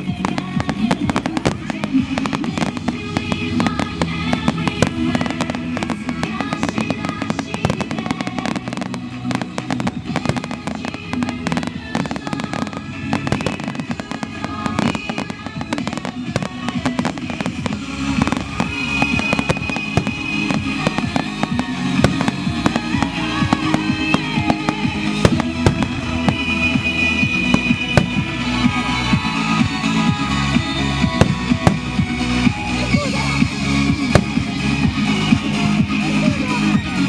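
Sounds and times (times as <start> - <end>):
fireworks bursting and crackling: 0.0 - 37.0
music playing: 0.0 - 37.0.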